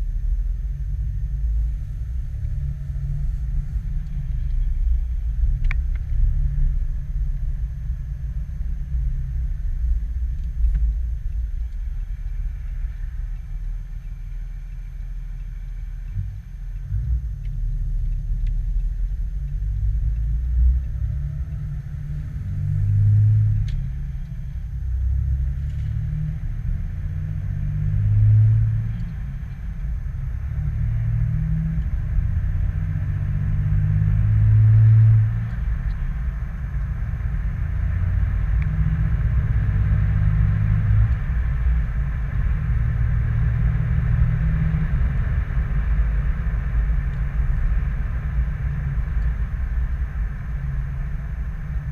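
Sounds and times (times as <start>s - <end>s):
diesel pickup engine rumbling: 0.0s - 51.9s.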